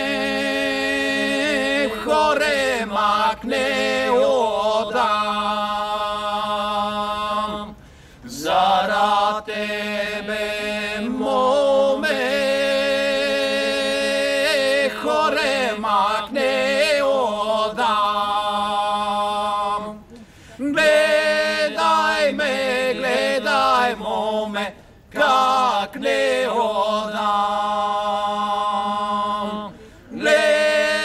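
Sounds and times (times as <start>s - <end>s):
men singing a cappella: 0.0s - 31.0s.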